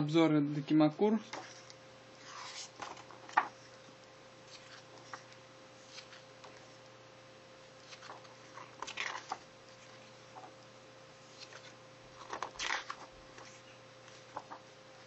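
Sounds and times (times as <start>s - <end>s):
book pages turning: 1.2s - 6.9s, 7.8s - 10.6s, 11.2s - 15.0s.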